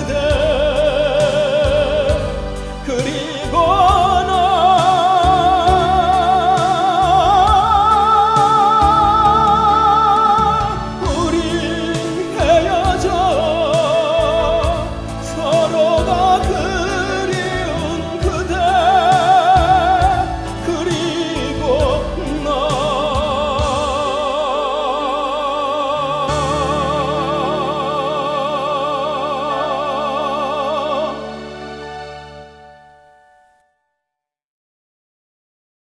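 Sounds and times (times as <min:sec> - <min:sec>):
man singing with vibrato: 0:00.0 - 0:32.0
instrumental backing music: 0:00.0 - 0:34.0.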